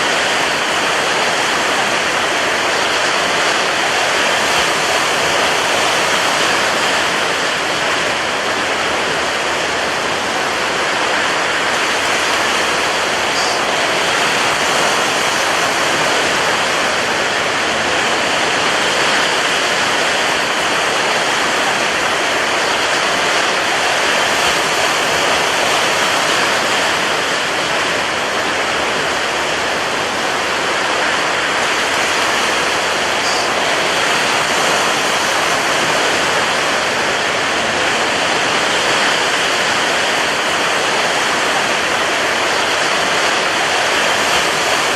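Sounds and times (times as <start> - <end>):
rough sea surf breaking: 0.0 - 44.9.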